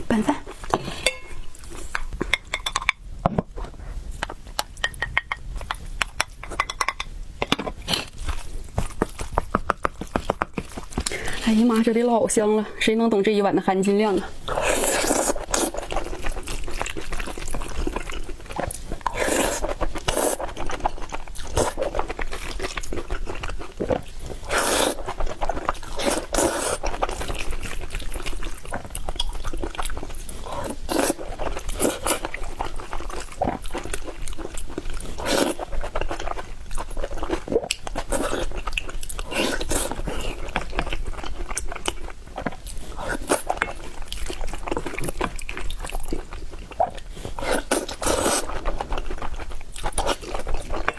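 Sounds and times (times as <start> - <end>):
person chewing noodles: 7.4 - 11.9, 14.3 - 50.9.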